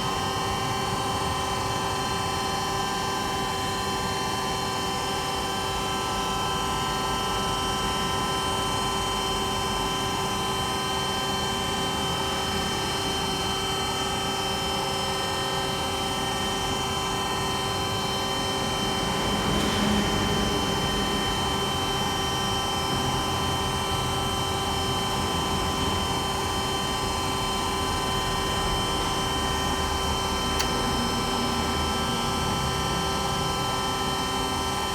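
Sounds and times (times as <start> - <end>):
vacuum pump humming and whining: 0.0 - 34.9.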